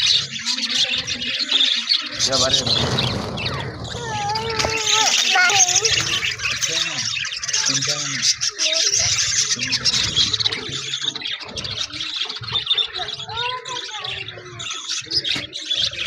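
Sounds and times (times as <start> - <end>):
budgerigars twittering and squawking: 0.0 - 16.0.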